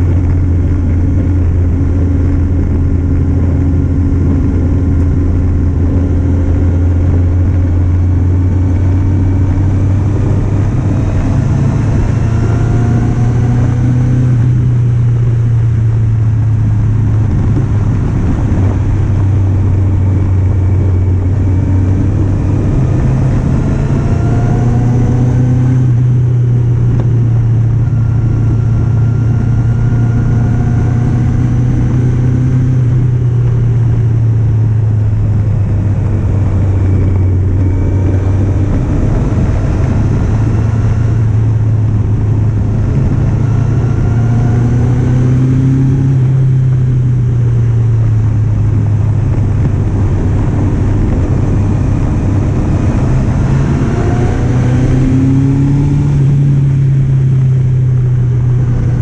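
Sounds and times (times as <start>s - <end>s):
motorcycle engine revving: 0.0s - 59.0s
steady low rush: 0.0s - 59.0s.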